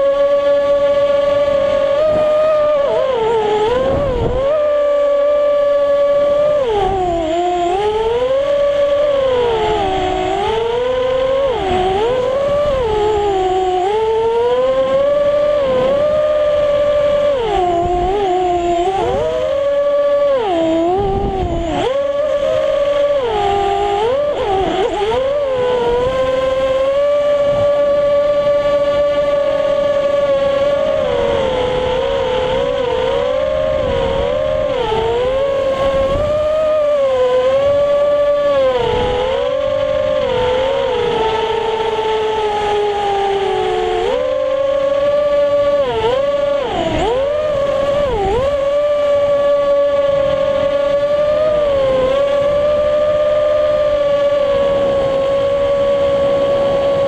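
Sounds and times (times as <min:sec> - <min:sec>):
drone motors whining: 0:00.0 - 0:57.0.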